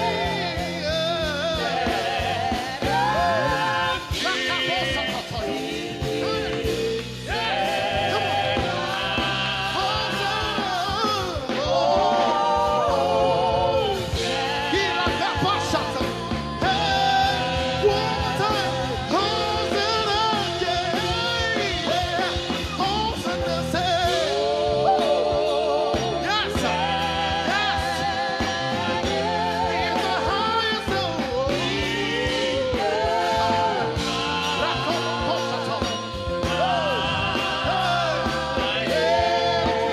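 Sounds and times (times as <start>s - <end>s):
band accompaniment: 0.0s - 39.9s
gospel singing with vibrato: 0.0s - 39.9s.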